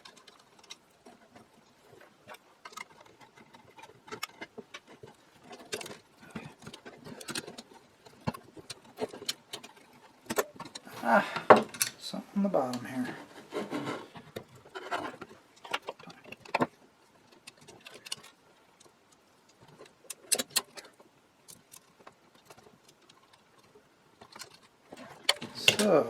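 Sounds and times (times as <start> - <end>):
hand tools clicking and scraping metal: 0.0 - 26.0.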